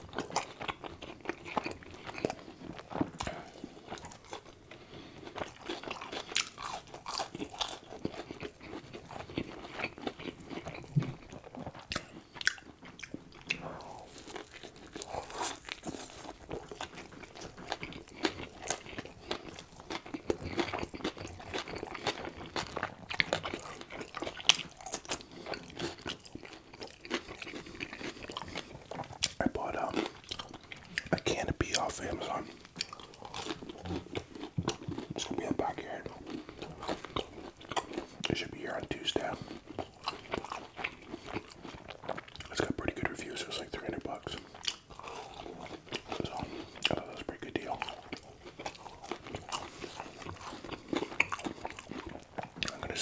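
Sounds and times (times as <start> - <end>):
biting and chewing food: 0.0 - 53.0
mouth clicks and smacks: 8.0 - 26.1, 27.0 - 53.0.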